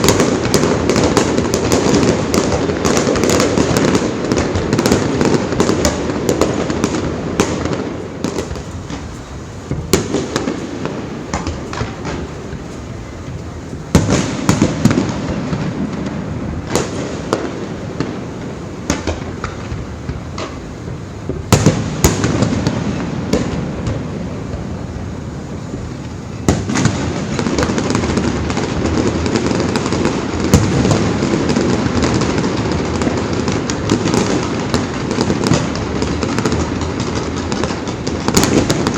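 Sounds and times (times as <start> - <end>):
fireworks bangs and crackling: 0.0 - 38.9
heavy firework booms: 0.0 - 38.9.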